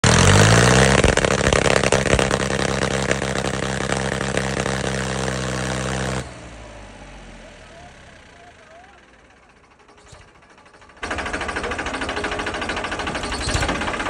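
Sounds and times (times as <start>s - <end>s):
tractor diesel engine straining: 0.0s - 14.0s.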